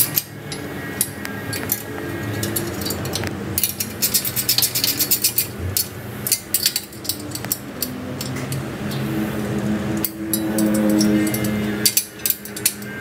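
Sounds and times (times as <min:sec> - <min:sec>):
hand tool clicking on metal: 0:00.0 - 0:09.1, 0:10.0 - 0:12.9.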